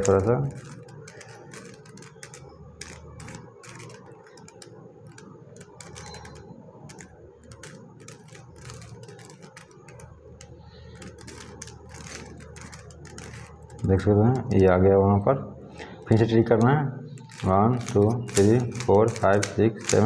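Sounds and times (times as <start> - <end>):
puzzle cube layers clicking: 0.0 - 13.9, 17.2 - 20.0.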